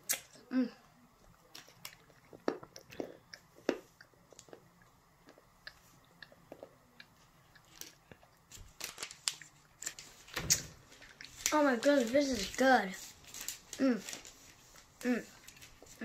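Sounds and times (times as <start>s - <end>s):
child chewing chocolate: 0.0s - 16.0s.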